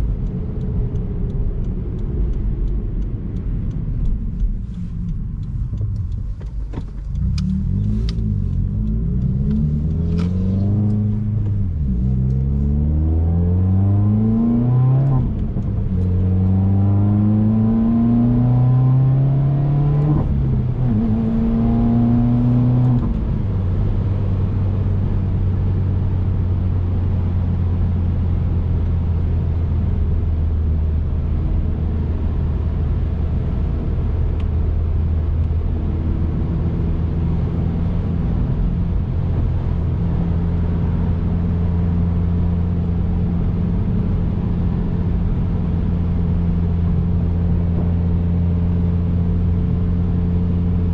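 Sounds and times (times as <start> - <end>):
car engine revving and droning: 0.0 - 50.9.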